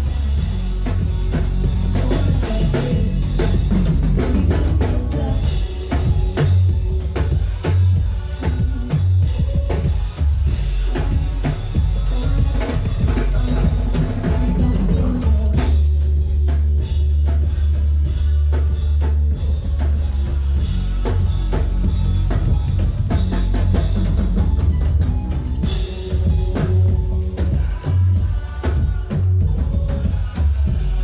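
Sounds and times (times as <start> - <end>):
loud music with drums and bass: 0.0 - 31.0.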